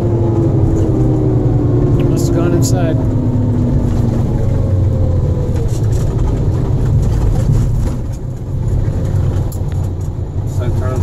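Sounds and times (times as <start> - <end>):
diesel truck engine rumble: 0.0 - 11.0
road noise: 0.0 - 11.0.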